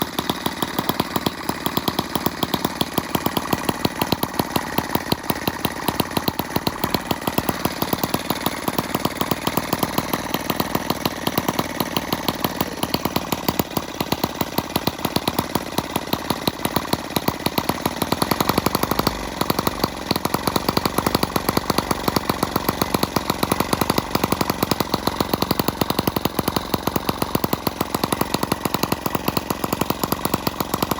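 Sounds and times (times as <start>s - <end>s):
model engine running: 0.0s - 30.9s.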